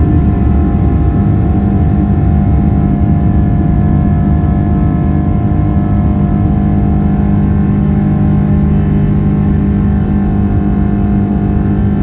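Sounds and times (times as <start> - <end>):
engine fan tones droning: 0.0 - 12.0
jet engines rumbling in cabin: 0.0 - 12.0.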